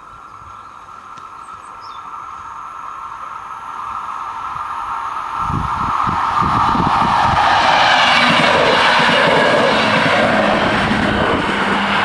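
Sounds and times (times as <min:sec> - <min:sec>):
train running noise rush: 0:00.0 - 0:12.0.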